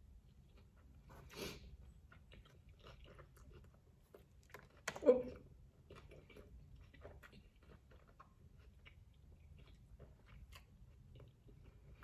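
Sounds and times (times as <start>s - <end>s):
chewing crunchy food: 0.1s - 12.0s.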